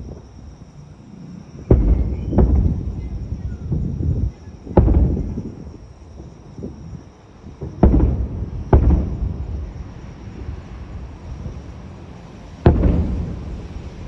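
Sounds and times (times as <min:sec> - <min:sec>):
fireworks booming: 0:01.6 - 0:14.0.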